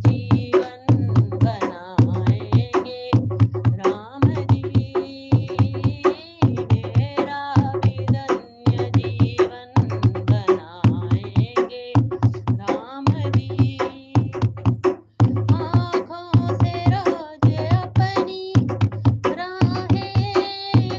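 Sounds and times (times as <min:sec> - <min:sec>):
person singing devotional song: 0:00.0 - 0:14.6, 0:15.3 - 0:20.9
steady drum beat: 0:00.0 - 0:20.9.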